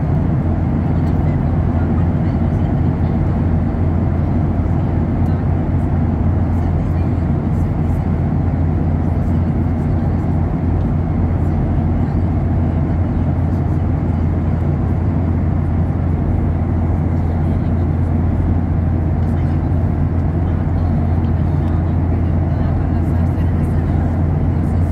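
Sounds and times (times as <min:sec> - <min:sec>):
airplane cabin drone: 0:00.0 - 0:24.9.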